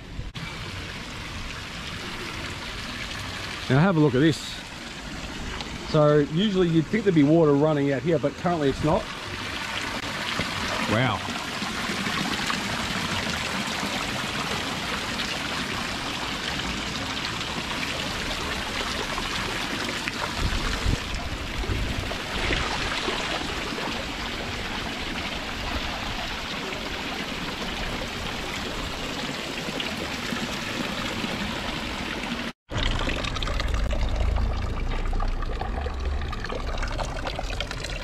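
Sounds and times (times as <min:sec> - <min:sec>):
fountain water splashing: 0:00.4 - 0:38.0.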